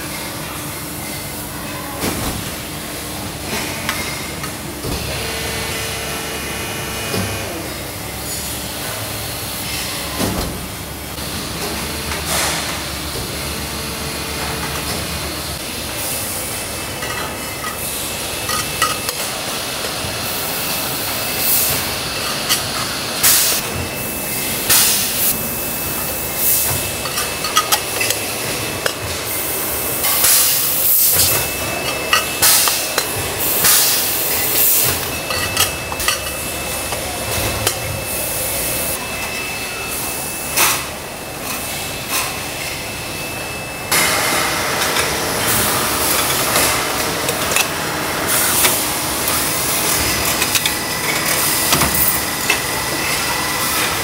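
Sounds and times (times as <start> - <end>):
machinery hiss and hum: 0.0 - 54.0.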